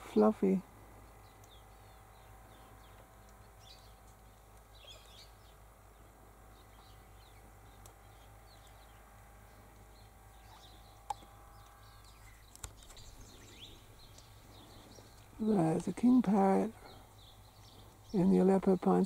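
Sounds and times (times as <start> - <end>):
low steady hum: 0.0 - 19.0
small birds chirping: 0.0 - 19.0.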